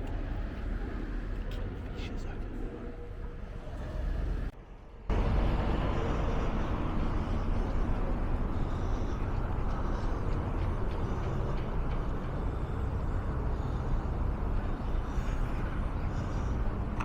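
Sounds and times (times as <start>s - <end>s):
cars passing on busy road: 0.0s - 17.0s.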